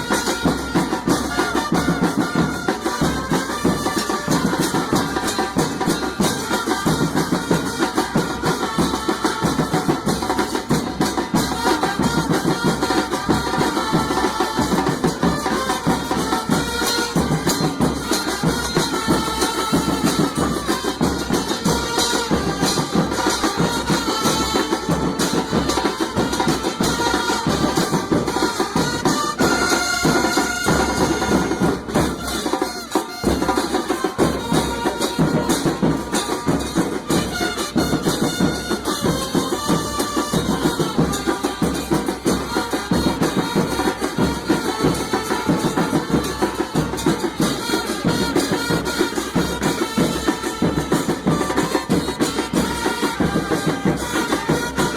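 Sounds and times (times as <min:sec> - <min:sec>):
music with drums and percussion: 0:00.0 - 0:54.9.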